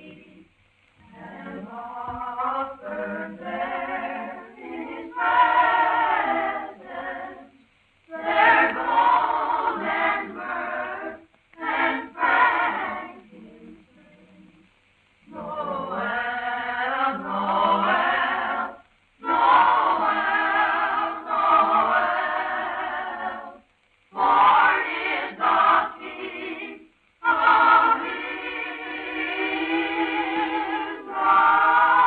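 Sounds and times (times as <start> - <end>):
choir singing a carol: 0.0 - 32.0.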